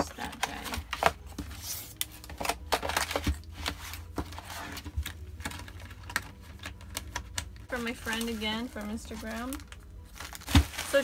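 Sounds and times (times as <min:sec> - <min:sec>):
plastic packaging crinkle: 0:00.0 - 0:11.0.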